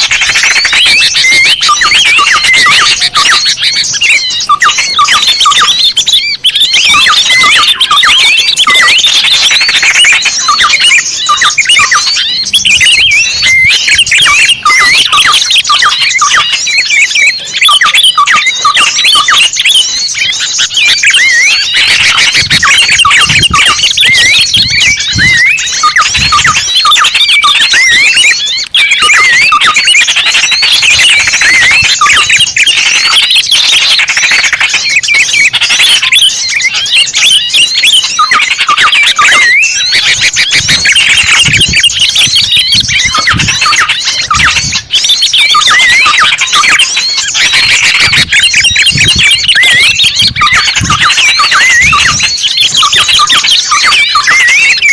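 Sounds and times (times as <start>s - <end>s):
small birds chirping and twittering: 0.0s - 54.9s.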